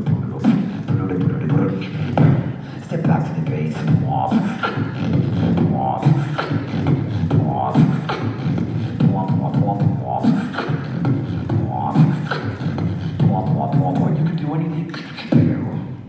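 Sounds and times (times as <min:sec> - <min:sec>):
hummed bass: 0:00.0 - 0:14.8
beatboxing mouth hits: 0:00.0 - 0:16.0.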